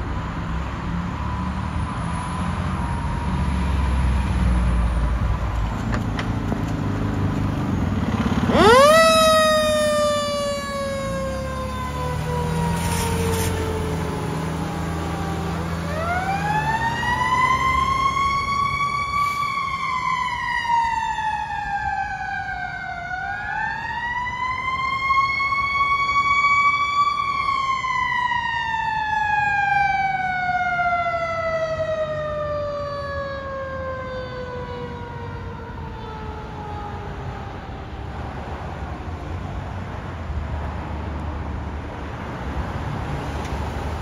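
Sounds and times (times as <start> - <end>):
fire truck siren wailing: 0.9 - 5.5, 7.7 - 39.4.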